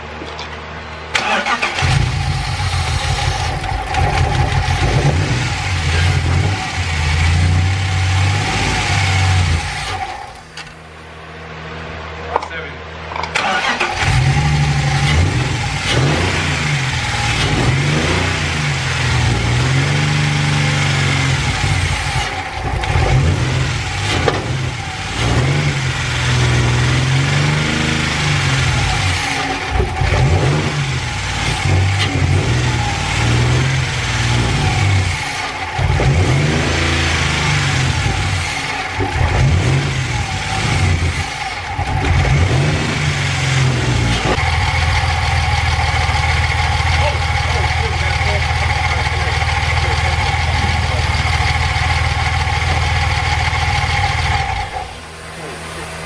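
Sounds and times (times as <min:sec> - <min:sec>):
car engine revving: 0:01.1 - 0:12.1, 0:13.3 - 0:56.0.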